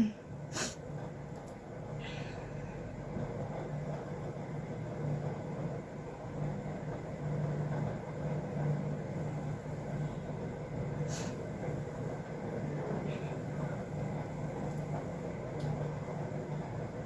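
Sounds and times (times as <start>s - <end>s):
droning hum: 0.0s - 17.0s.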